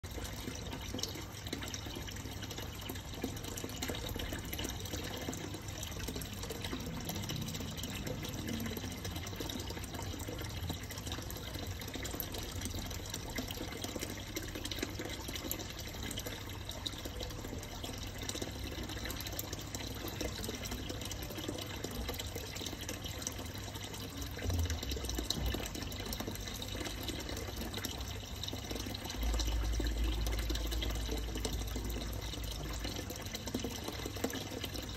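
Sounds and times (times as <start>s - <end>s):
water trickling: 0.0s - 34.9s.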